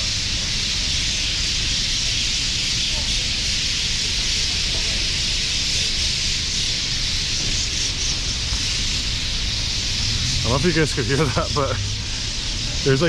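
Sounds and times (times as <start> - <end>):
flock of birds chattering: 0.0 - 13.0
low rumble of street traffic: 0.0 - 13.0.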